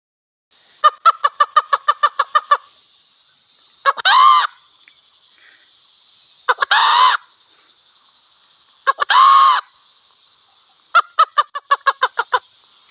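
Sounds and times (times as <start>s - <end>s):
junglefowl clucking and calling: 0.7s - 5.0s, 6.1s - 12.9s.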